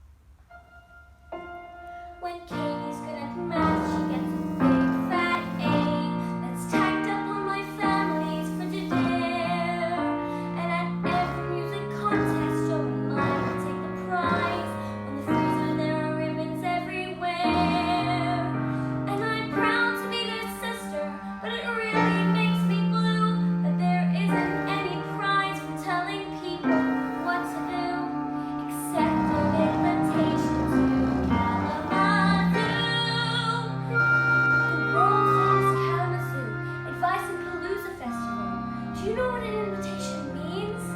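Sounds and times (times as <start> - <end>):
piano chords: 0.4 - 40.9
person singing with vibrato: 2.0 - 40.9.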